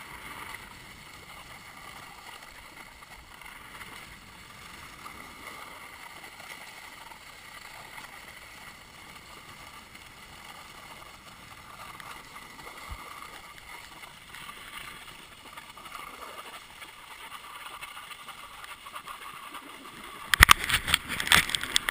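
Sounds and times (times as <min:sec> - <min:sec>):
skis clattering on rough snow: 0:00.0 - 0:21.9
skis hissing over snow: 0:00.0 - 0:21.9.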